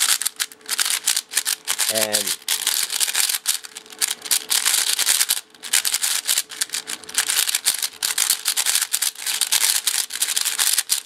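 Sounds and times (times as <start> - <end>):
puzzle cube clicking turns: 0.0 - 11.0.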